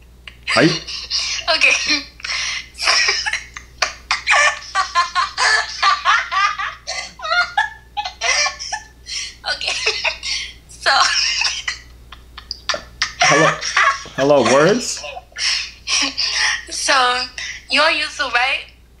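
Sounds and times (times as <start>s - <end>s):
person laughing hard: 0.5s - 11.8s, 12.4s - 16.7s.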